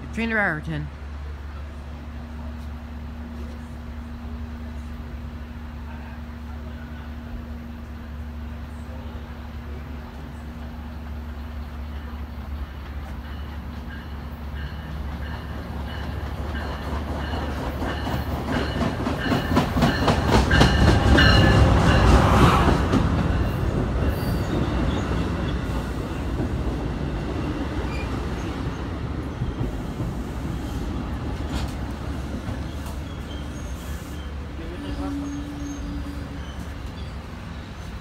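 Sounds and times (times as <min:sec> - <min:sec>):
diesel locomotive passing: 0:00.0 - 0:38.0
train coaches rolling by: 0:00.0 - 0:38.0.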